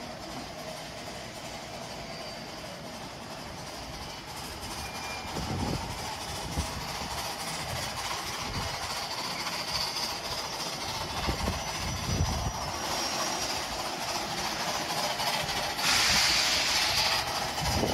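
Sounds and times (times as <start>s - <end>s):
steam locomotive hissing: 0.0s - 17.9s.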